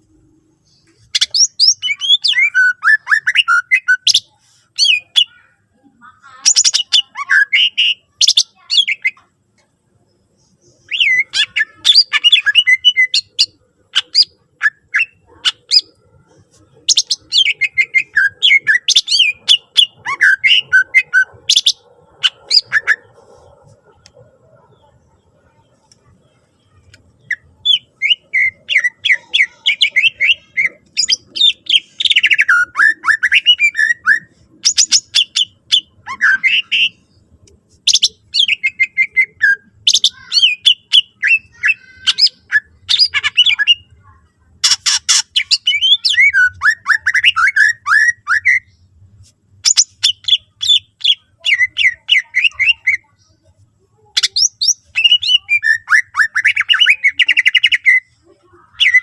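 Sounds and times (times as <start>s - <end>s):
bird singing chirps and trills: 0.0s - 48.9s, 49.6s - 59.0s.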